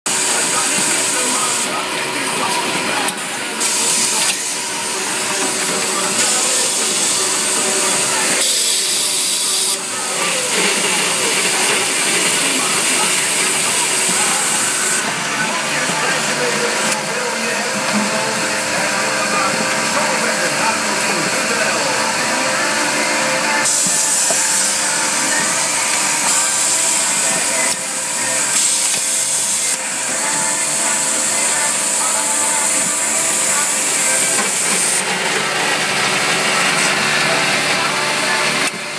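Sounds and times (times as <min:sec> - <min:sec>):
machine noise: 0:00.1 - 0:38.9
mechanical hum: 0:00.1 - 0:38.9.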